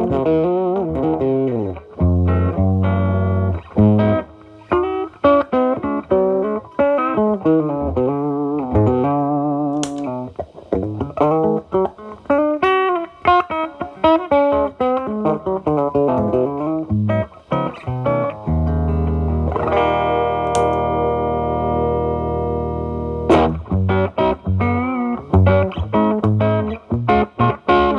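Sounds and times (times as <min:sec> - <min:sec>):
distorted electric guitar: 0:00.0 - 0:27.9.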